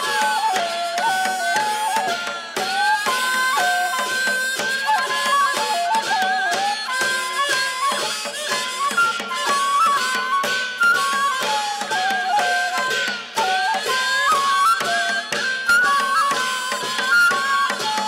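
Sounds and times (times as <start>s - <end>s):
drum strokes: 0.0s - 18.0s
wind instrument melody: 0.0s - 18.0s.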